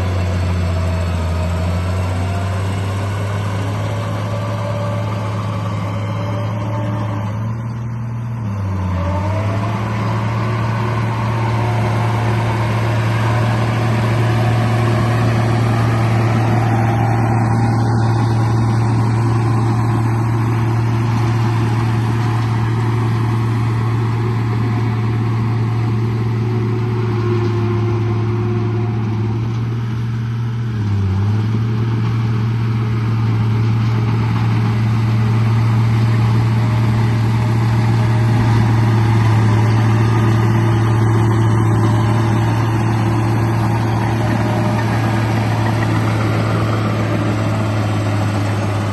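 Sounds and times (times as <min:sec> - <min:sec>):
remote-control bulldozer droning: 0:00.0 - 0:48.9.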